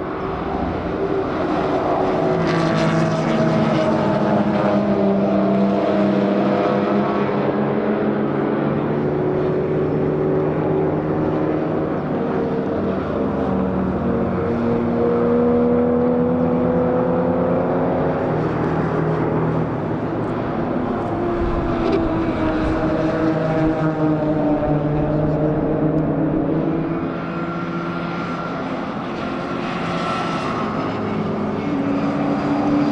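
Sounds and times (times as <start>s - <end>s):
racing car engines running hard: 0.0s - 32.9s.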